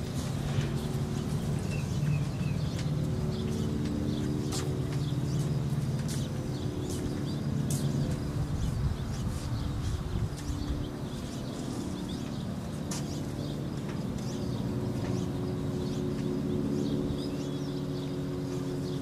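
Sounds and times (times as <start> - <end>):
birds chirping: 0.0 - 19.0
propeller aircraft engine droning: 0.0 - 19.0.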